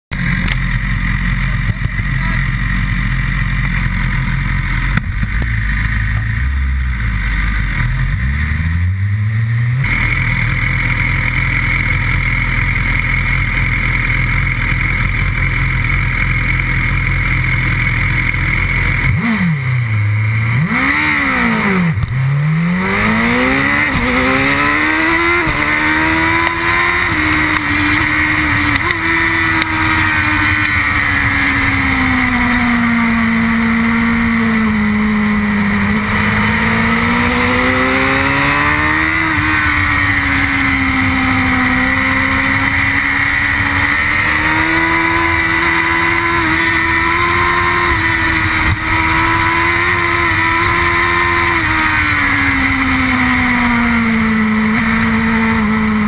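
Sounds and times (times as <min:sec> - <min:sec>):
motorcycle engine accelerating: 0:00.1 - 0:56.0.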